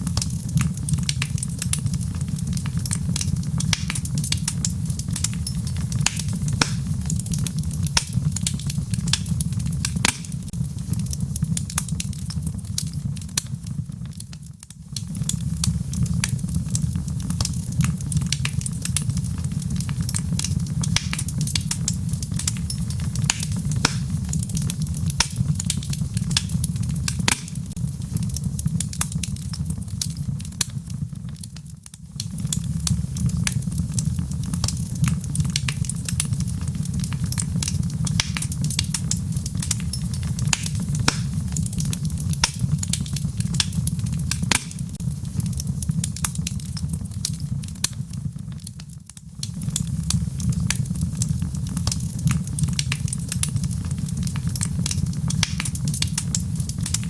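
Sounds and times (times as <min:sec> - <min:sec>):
low rumble of flame: 0:00.0 - 0:57.0
wood fire crackling and popping: 0:00.0 - 0:57.0.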